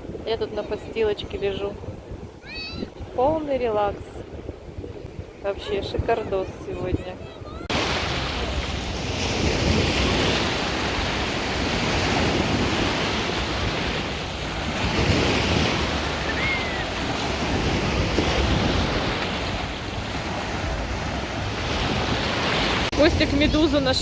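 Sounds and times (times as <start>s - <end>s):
sea waves washing onto beach: 0.0s - 24.0s
wind buffeting microphone: 0.0s - 24.0s.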